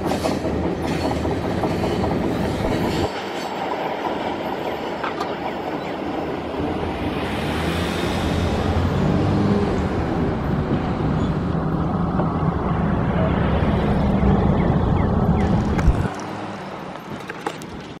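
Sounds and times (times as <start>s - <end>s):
freight train cars rumbling on rails: 0.0s - 15.8s.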